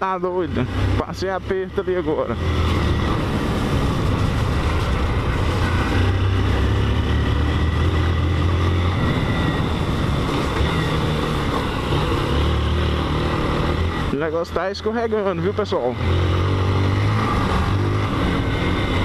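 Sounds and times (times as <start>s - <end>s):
motorcycle engine running: 0.1s - 19.0s.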